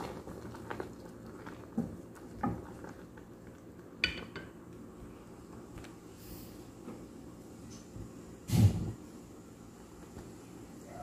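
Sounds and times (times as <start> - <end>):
noodles boiling in a pot: 0.0 - 11.0.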